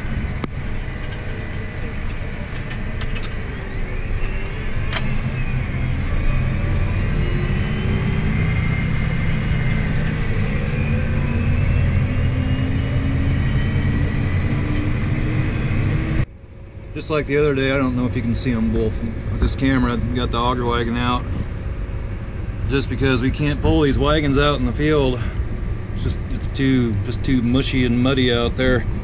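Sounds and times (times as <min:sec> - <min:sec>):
faint rising tone: 0:00.0 - 0:28.6
diesel engine running: 0:00.0 - 0:29.0.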